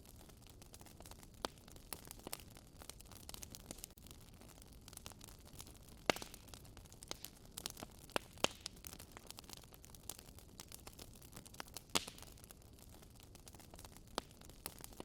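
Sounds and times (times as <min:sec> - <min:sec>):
faint steady fire hiss: 0:00.0 - 0:15.0
wood fire crackling and popping: 0:00.0 - 0:15.0.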